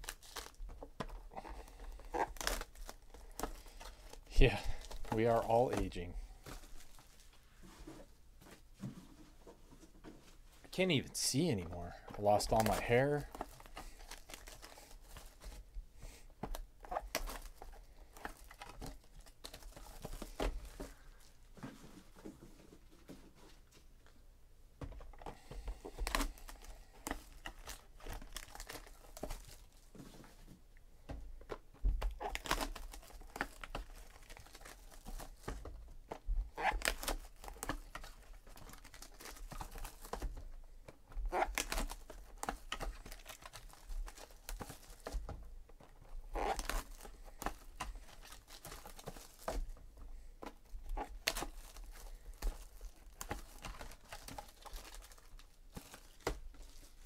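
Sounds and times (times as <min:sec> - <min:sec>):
foil wrappers crinkling and tearing: 0:00.0 - 0:07.3, 0:11.3 - 0:15.7, 0:16.5 - 0:21.4, 0:25.3 - 0:30.0, 0:32.0 - 0:57.0.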